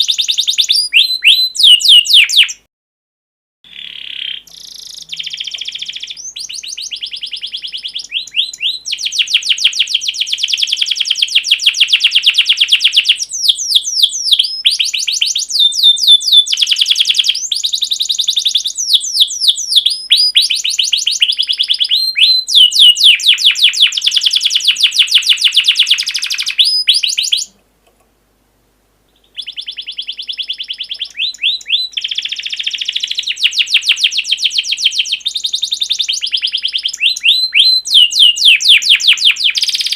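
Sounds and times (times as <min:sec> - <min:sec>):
songbird trills and whistles: 0:00.0 - 0:02.6, 0:03.7 - 0:27.5, 0:29.2 - 0:39.9.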